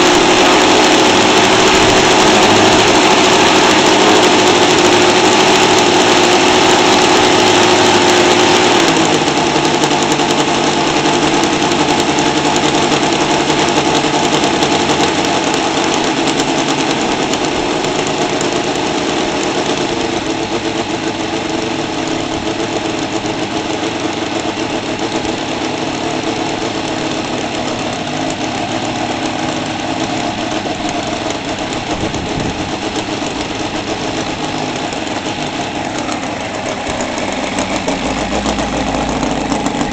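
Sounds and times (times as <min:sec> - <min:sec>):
model radial engine running: 0:00.0 - 0:39.9.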